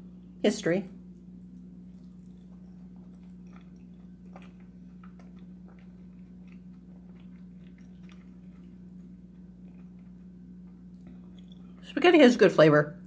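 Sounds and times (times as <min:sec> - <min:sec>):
steady low hum: 0:00.0 - 0:13.0
person chewing spaghetti: 0:01.2 - 0:11.9.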